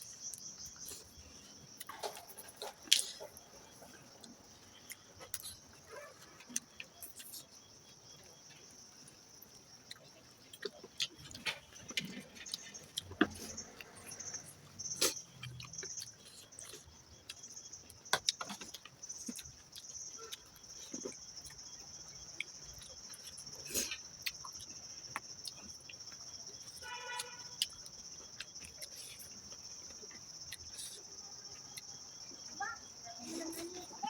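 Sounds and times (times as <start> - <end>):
chewing food: 0.0 - 34.0
crickets chirping: 0.0 - 34.0.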